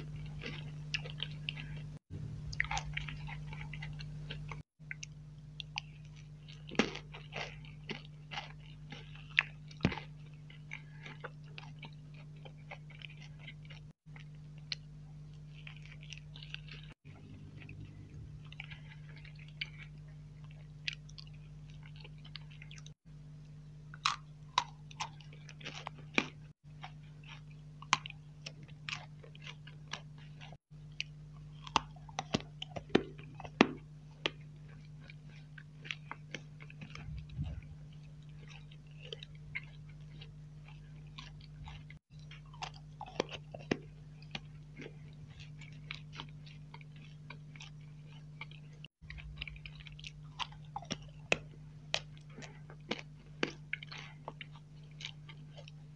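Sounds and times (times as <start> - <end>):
chewing with wet mouth clicks: 0.0 - 23.0, 23.9 - 55.9
steady low hum: 0.0 - 55.9.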